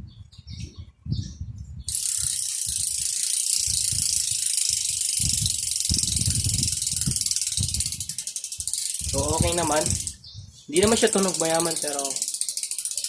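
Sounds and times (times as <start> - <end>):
freehub ratcheting buzz: 1.9 - 10.2, 10.8 - 13.0.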